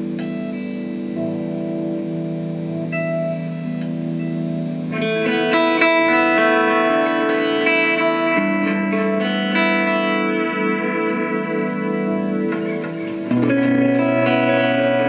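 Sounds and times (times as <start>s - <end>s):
electric guitar solo: 0.0s - 15.0s.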